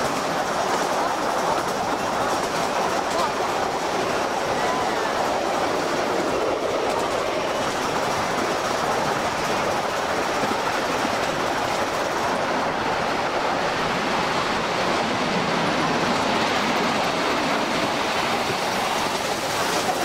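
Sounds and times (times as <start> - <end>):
small wheels rattling on rails: 0.0 - 20.0.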